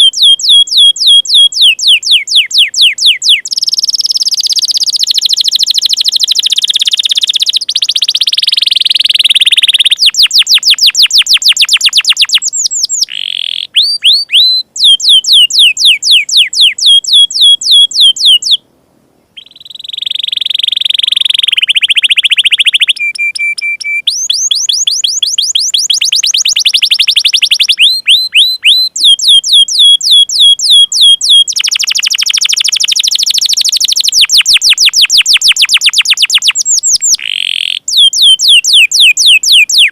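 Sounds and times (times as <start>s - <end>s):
canary trilling song: 0.0s - 18.6s, 19.3s - 39.9s.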